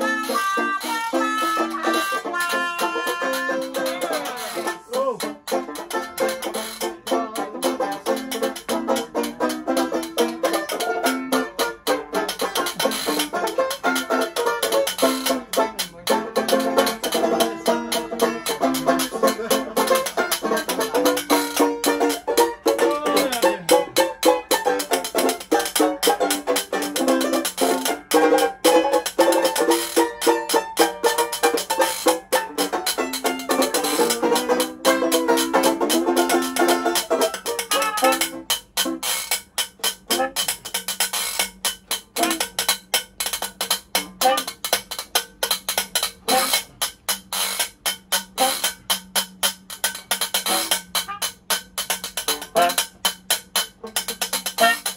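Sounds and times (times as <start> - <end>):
scraped metal rubboard: 0.0 - 54.9
strummed banjo: 0.0 - 54.9.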